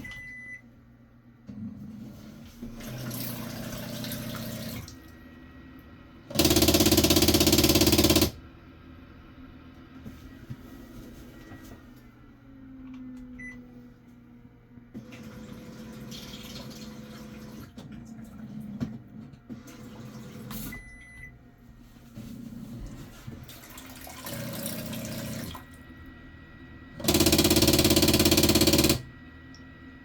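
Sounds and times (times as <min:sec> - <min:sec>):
toilet motor hum: 0:00.0 - 0:10.7, 0:11.4 - 0:21.4, 0:22.1 - 0:30.0.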